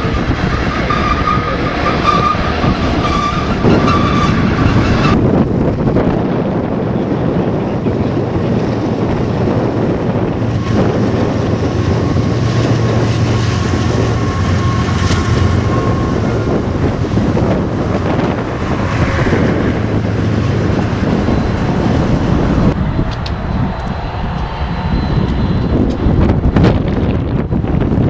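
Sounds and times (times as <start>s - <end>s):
train rumbling past: 0.0s - 28.0s
wind buffeting microphone: 0.0s - 28.0s.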